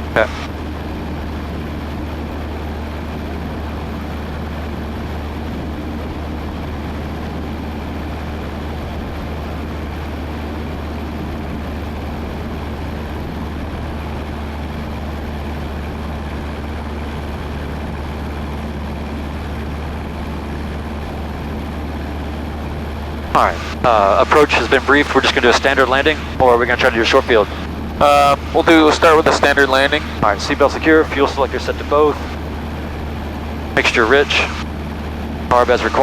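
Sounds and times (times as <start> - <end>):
small plane engine droning: 0.0 - 36.0.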